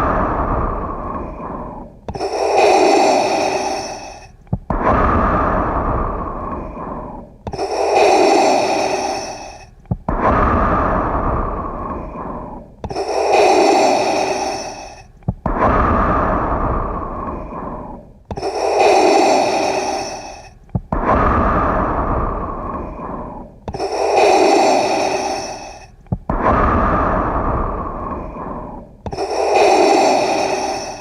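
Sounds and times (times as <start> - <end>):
mechanical respirator breathing: 0.0 - 31.0.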